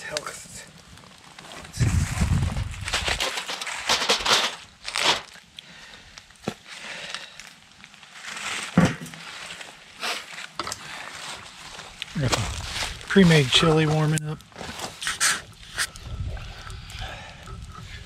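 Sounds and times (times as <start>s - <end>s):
crinkling and rustling handling: 0.0s - 18.0s.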